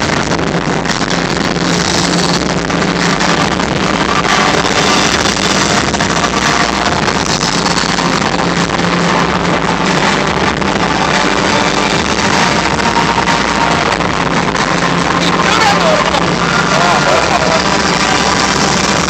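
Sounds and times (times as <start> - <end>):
crowd: 0.0 - 19.0
distorted amplified concert roar: 0.0 - 19.0.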